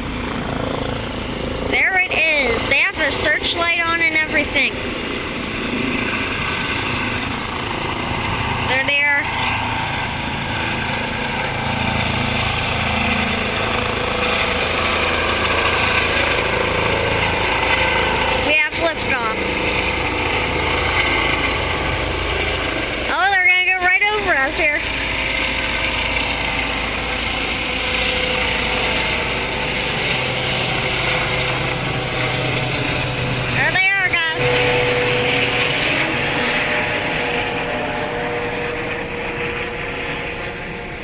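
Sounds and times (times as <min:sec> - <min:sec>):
helicopter rotor beat: 0:00.0 - 0:41.0
helicopter turbine whine: 0:00.0 - 0:41.0
low hum: 0:00.0 - 0:41.0.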